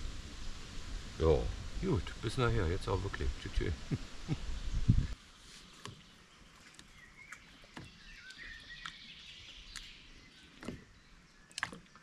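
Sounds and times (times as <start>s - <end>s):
faint birds chirping: 0.9s - 12.0s.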